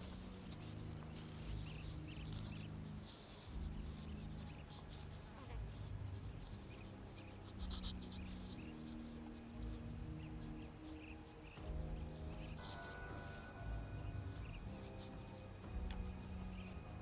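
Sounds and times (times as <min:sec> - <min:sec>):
buzzing of flying insects: 0:00.0 - 0:17.0.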